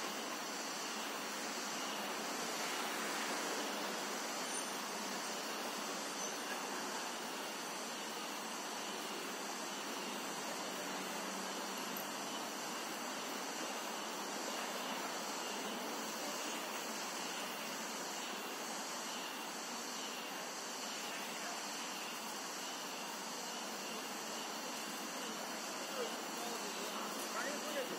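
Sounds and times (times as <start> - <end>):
outdoor background hiss: 0.0 - 27.9.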